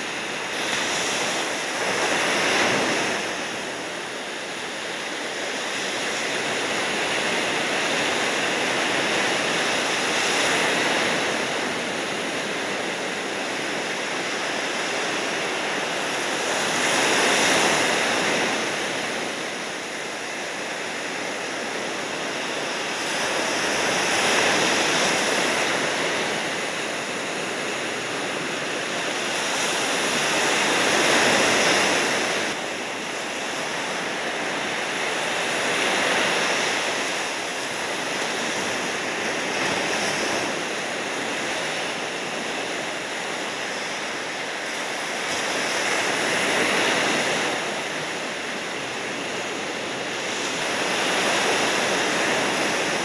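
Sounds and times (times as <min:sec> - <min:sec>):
ocean waves breaking: 0:00.0 - 0:53.0.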